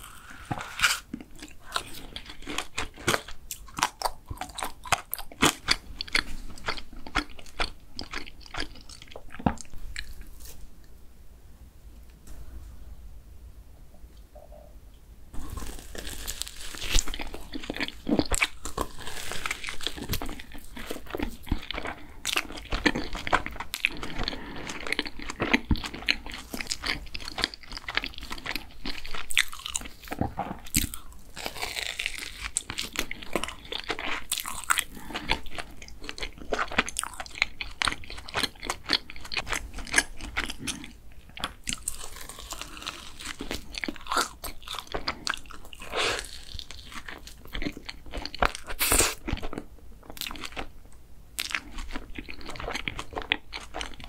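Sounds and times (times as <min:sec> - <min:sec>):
biting and chewing doughnut: 0:00.0 - 0:10.6, 0:15.4 - 0:50.7, 0:51.4 - 0:54.0.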